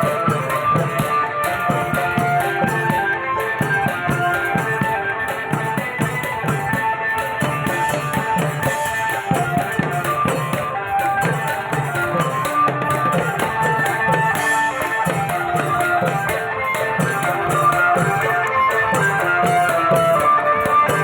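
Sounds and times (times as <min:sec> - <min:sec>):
drums beating a steady rhythm: 0:00.0 - 0:21.0.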